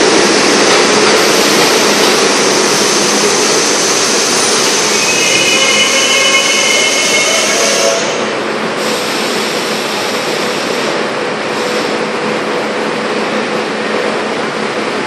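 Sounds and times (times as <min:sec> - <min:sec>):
subway train rushing hiss: 0:00.0 - 0:15.0.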